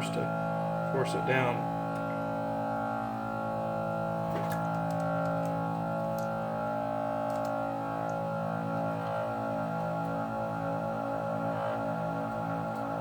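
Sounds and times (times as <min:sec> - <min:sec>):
music of sustained chords: 0:00.0 - 0:13.0.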